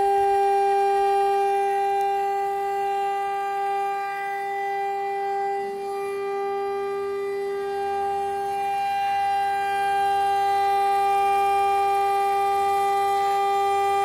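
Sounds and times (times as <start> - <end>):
cnc router cutting metal whine: 0.0 - 14.0.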